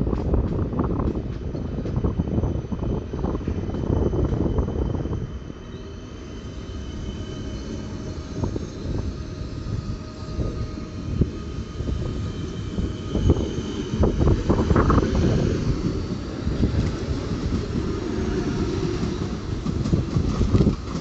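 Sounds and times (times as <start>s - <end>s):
wheels rumbling on rails: 0.0s - 21.0s.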